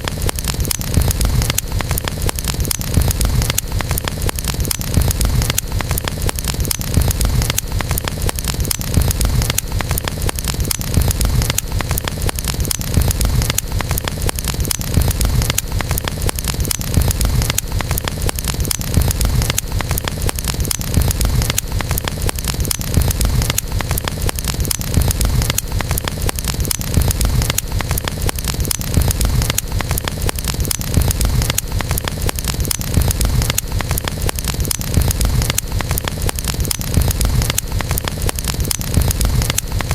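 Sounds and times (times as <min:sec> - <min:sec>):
campfire wood crackling: 0:00.0 - 0:39.9
low rumble of flames: 0:00.0 - 0:39.9.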